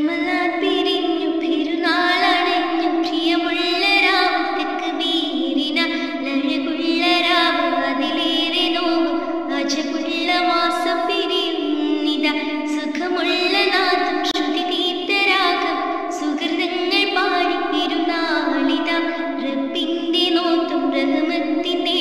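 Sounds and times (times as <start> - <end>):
girl singing slow melody: 0.0 - 22.0.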